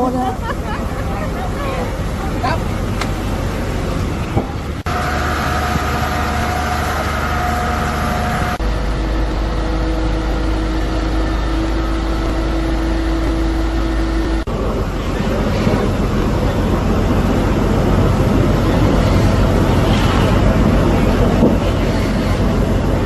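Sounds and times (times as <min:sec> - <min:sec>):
fire truck engines humming: 0:00.0 - 0:23.0
steady whine: 0:00.0 - 0:23.0.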